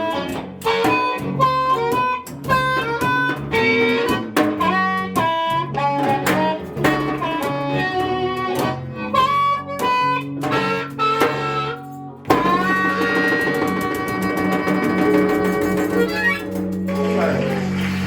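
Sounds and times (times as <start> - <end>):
bass line: 0.0 - 18.0
blues guitar and harmonica: 0.0 - 18.0.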